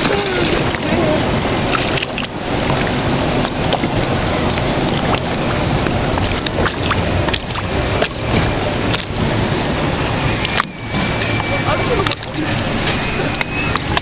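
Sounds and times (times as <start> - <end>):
rushing water and wind: 0.0 - 14.0.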